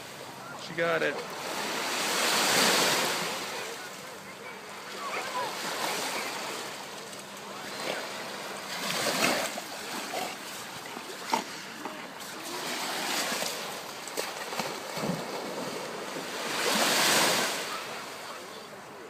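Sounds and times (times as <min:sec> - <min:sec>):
water splashing and lapping: 0:00.0 - 0:18.9.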